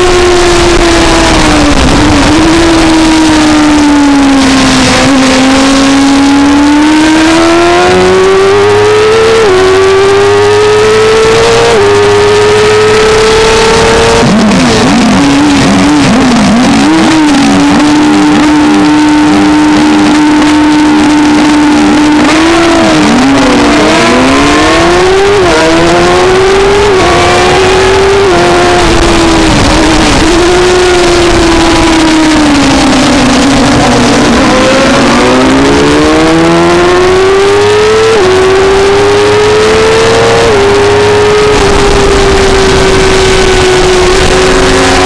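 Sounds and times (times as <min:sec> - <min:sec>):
motorcycle engine at high revs: 0:00.0 - 0:45.0.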